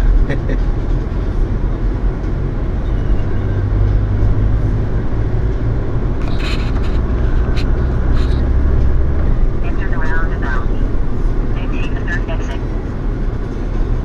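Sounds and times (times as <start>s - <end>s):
engine and road drone in car: 0.0s - 14.0s.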